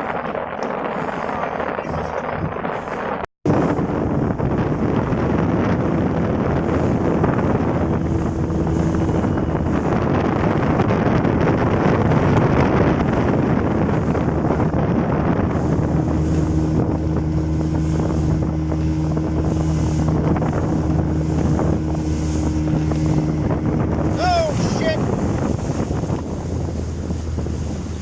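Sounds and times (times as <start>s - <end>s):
outboard motor running: 0.0s - 28.0s
water rushing past hull: 0.0s - 28.0s
wind on microphone: 0.0s - 28.0s.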